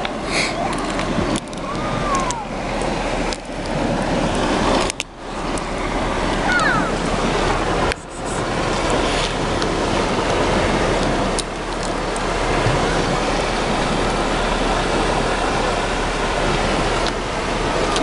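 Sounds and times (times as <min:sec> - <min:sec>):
sea surf: 0:00.0 - 0:18.0
wind on microphone: 0:00.0 - 0:18.0.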